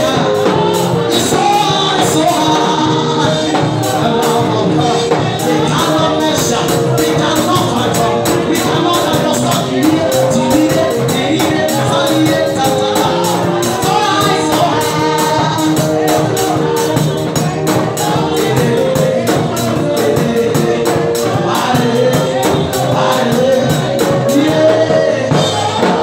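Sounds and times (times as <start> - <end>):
fast percussion beat: 0.0 - 26.0.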